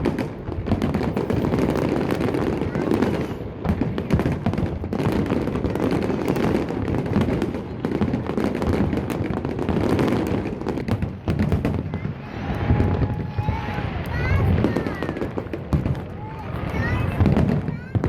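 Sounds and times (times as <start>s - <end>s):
fireworks booming: 0.0s - 18.0s
sharp fireworks cracks: 0.0s - 18.0s.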